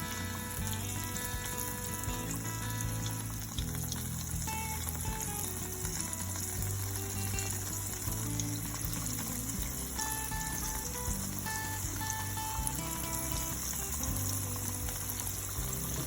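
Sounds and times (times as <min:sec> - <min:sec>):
background music with bass line: 0:00.0 - 0:16.0
chicken deep-frying in oil: 0:00.0 - 0:16.0.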